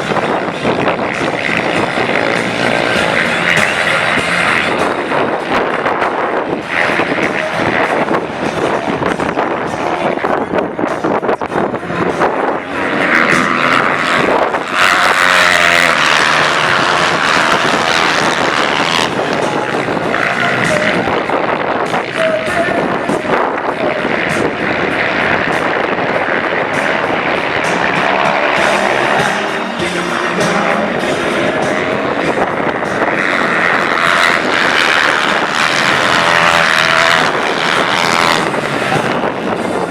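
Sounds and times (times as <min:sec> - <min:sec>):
racing motorcycle engines at high revs: 0:00.0 - 0:39.9.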